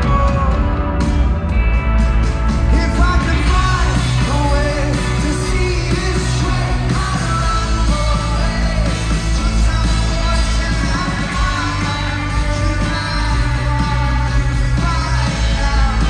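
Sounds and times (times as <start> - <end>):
lead vocal singing: 0.0 - 1.1, 2.6 - 16.0
rock band playing: 0.0 - 16.0.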